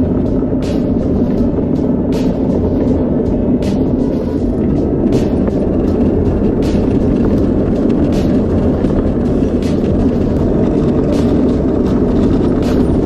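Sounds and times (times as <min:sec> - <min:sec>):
wheels rumbling on concrete: 0:00.0 - 0:13.0.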